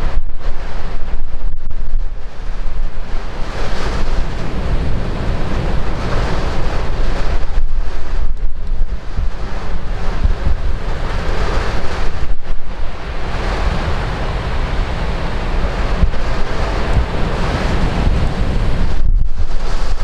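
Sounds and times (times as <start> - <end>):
heavy ocean surf breaking: 0.0 - 20.0
wind buffeting microphone: 0.0 - 20.0.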